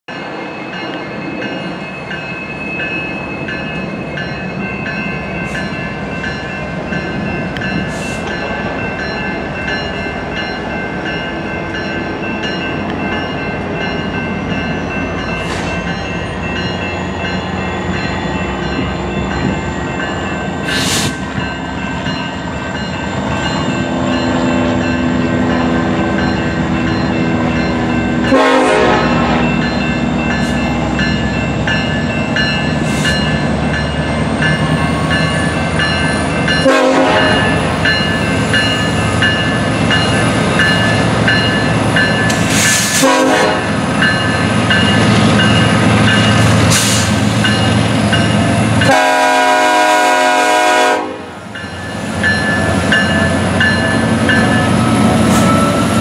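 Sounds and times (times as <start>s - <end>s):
diesel locomotive engines: 0.1s - 56.0s.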